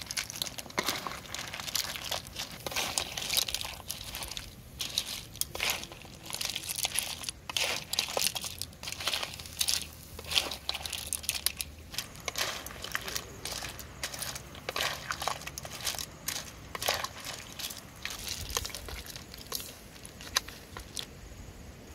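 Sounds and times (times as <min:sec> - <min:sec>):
mussel shells clattering in metal pan: 0:00.0 - 0:21.1.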